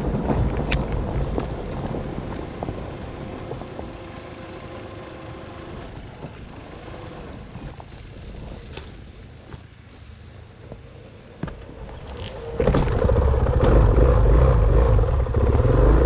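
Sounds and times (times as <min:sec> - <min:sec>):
dirt bike engine at low revs: 0:00.0 - 0:16.0.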